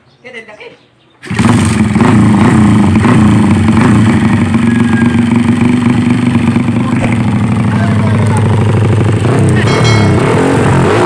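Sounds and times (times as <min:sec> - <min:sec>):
motorcycle engine idling: 0:01.2 - 0:10.8.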